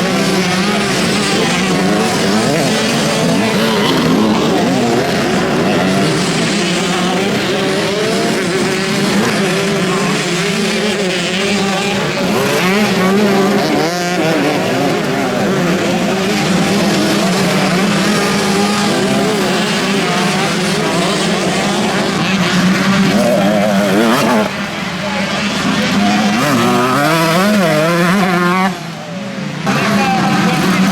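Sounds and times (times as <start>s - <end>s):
motocross bike engines revving: 0.0s - 30.9s.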